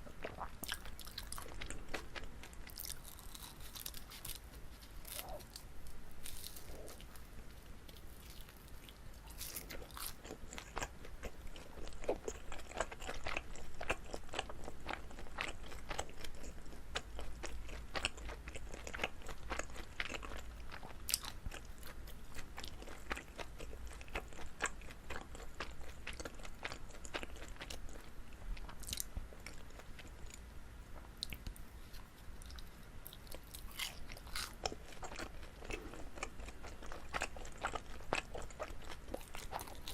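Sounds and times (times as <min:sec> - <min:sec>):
chewing sticky rice cake: 0:00.0 - 0:39.9.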